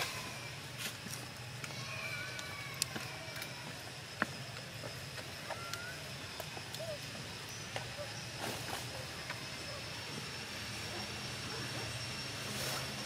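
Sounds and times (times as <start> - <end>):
low hum of distant engine: 0.0 - 13.0
faint chirps: 1.8 - 13.0.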